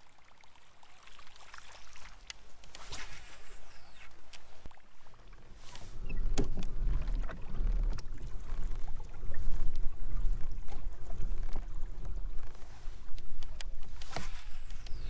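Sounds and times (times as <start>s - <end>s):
low rumble of kayak: 1.4s - 15.0s.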